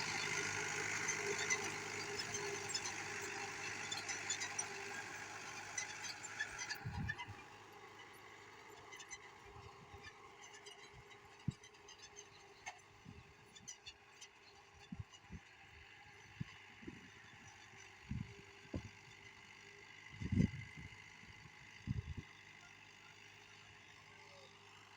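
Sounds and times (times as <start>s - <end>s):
faint engine running: 0.0s - 24.9s.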